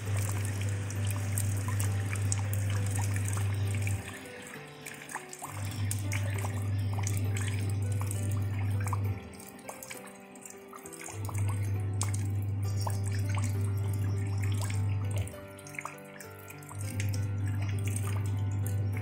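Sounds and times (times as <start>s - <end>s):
slow background music: 0.0s - 19.0s
water dripping into puddle: 0.0s - 19.0s.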